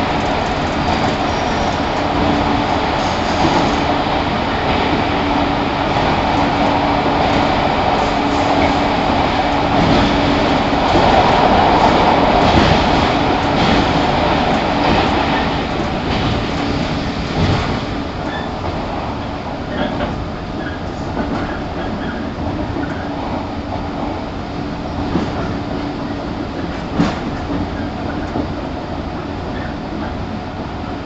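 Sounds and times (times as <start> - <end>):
train motors and wheels rumbling: 0.0 - 31.0.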